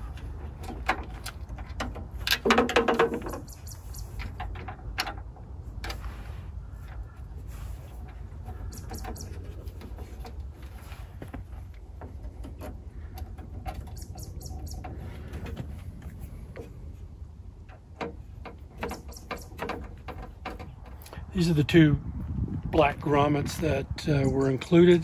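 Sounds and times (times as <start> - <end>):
steady low rumble: 3.5 - 18.8, 19.9 - 25.0.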